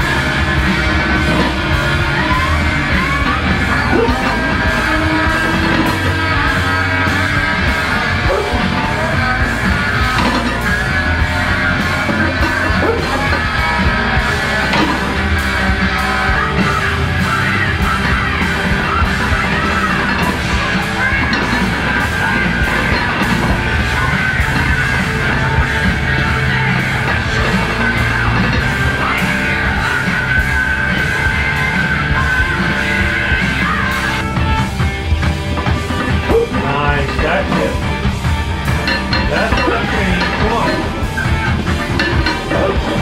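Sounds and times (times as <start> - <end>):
heavy rock music: 0.0 - 43.0
shouted vocals: 0.0 - 43.0
steady drum beat: 0.0 - 43.0.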